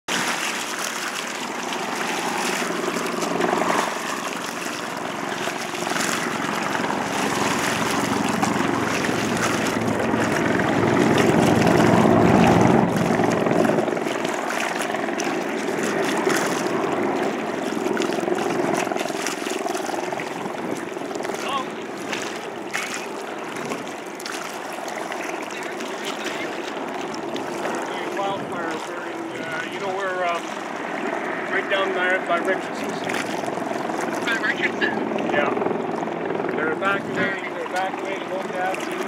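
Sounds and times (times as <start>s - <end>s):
helicopter rotor beating: 0.1s - 39.0s.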